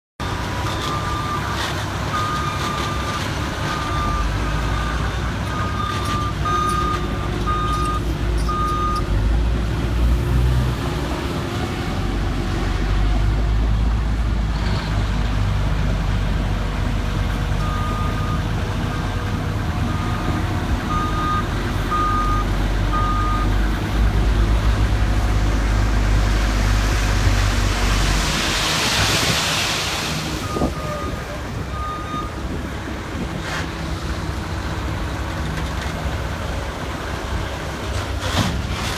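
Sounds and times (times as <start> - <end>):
construction vehicle engine rumbling: 0.2 - 38.9.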